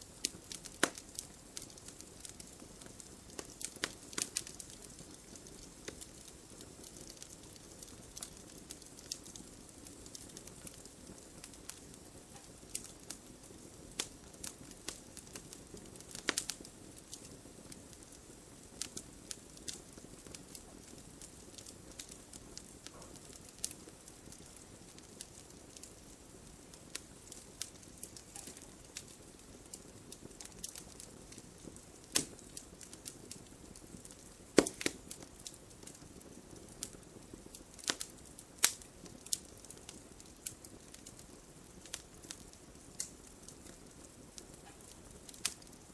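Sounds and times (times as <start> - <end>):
campfire crackling and popping: 0.0 - 45.9
soft fire hiss: 0.0 - 45.9.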